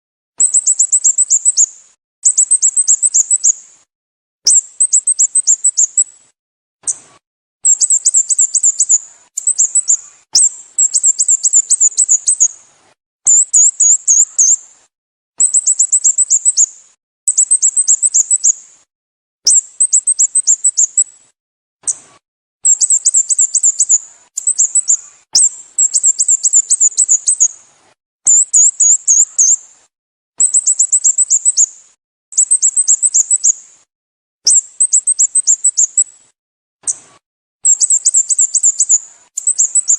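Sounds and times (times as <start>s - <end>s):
songbird high thin chirps: 0.4s - 3.7s, 4.4s - 12.6s, 13.3s - 14.7s, 15.4s - 18.7s, 19.4s - 21.2s, 21.8s - 27.6s, 28.3s - 29.7s, 30.4s - 33.8s, 34.4s - 39.9s.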